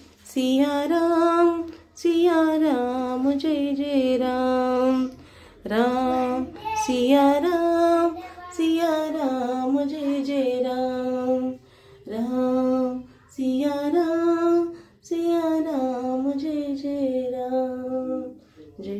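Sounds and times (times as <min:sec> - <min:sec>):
woman singing a devotional chant: 0:00.0 - 0:18.9.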